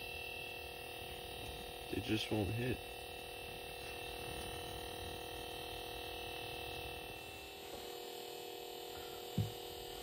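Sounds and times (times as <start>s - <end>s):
electrical hum with hiss: 0.0s - 10.0s.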